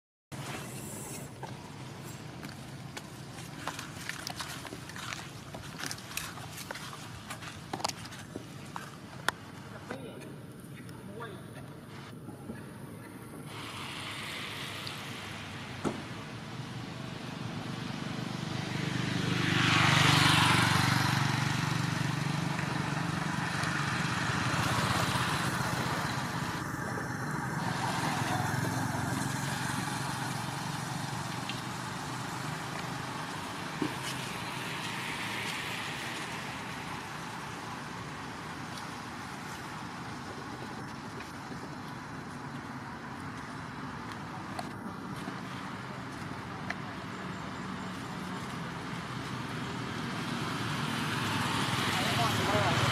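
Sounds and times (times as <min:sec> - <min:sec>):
motor vehicle passing: 0:00.4 - 0:52.9.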